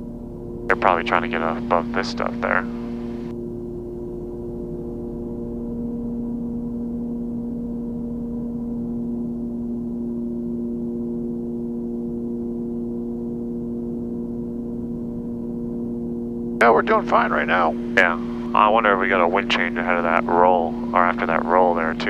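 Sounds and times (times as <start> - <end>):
aircraft cabin engine drone: 0.0 - 22.0.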